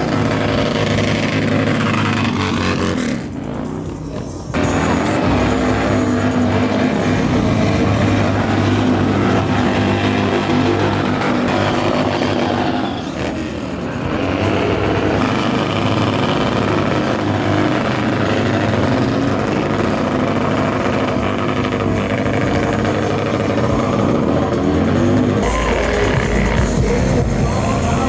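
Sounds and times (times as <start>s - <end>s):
motorcycle engines running: 0.0s - 28.0s.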